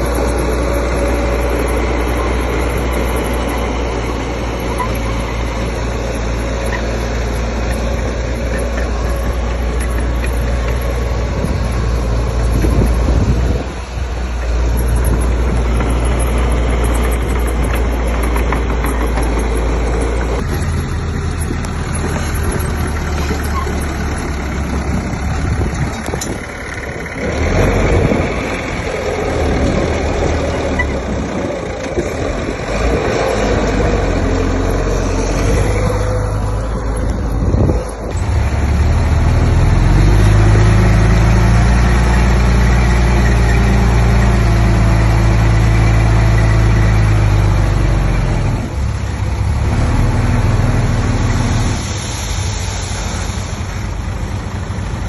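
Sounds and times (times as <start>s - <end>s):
engine droning under load: 0.0s - 55.0s
heavy diesel engines running: 0.0s - 55.0s.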